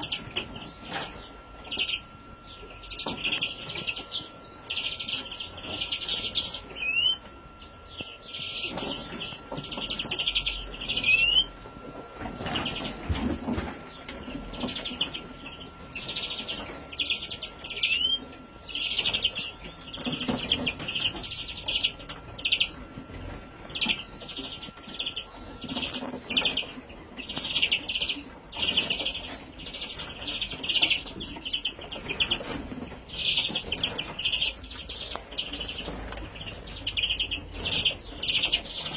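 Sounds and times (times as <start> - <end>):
young birds chirping: 0.0 - 38.9.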